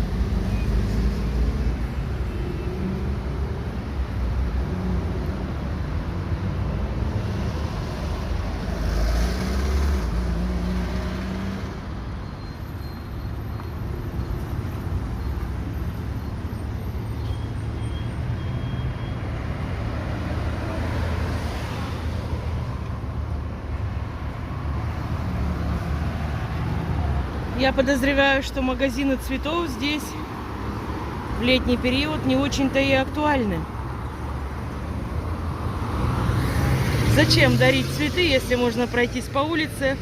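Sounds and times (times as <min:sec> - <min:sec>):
car and bus engines: 0:00.0 - 0:40.0.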